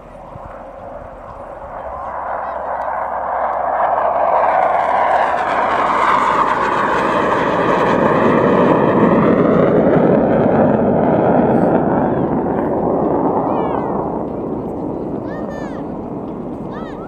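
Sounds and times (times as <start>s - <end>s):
jet engine roar fly-by: 0.0s - 17.0s.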